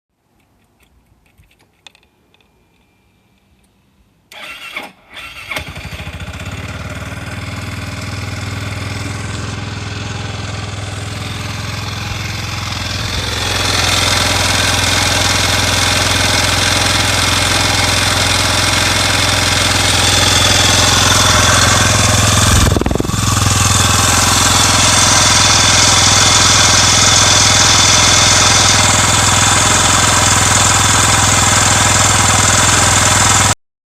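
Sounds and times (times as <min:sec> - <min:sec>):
scooter engine cranking and idling: 0:04.3 - 0:33.6.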